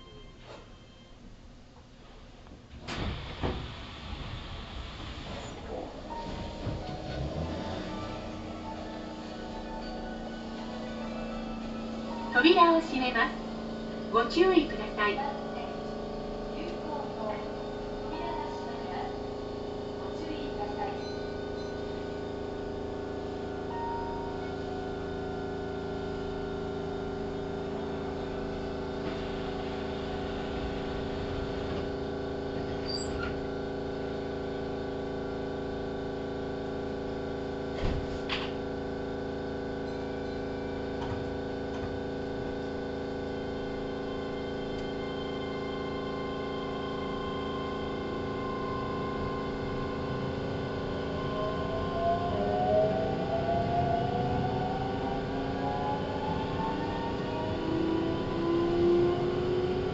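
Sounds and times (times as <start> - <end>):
electric train equipment hum: 0.0 - 59.9.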